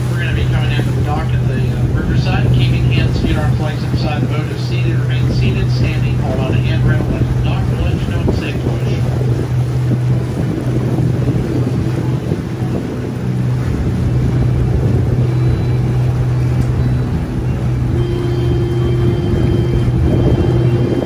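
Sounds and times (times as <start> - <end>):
boat motor running: 0.0 - 21.0
higher steady hum: 0.0 - 21.0
water noise: 0.0 - 21.0
wind noise: 0.0 - 21.0.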